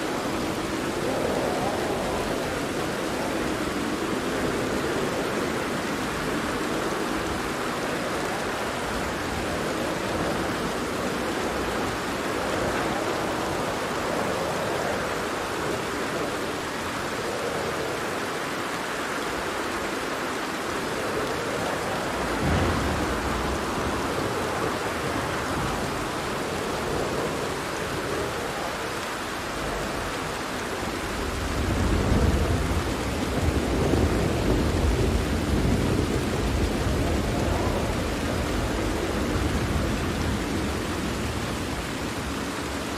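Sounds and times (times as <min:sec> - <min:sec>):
low rumble of thunder: 0:00.0 - 0:42.9
steady rain: 0:00.0 - 0:42.9.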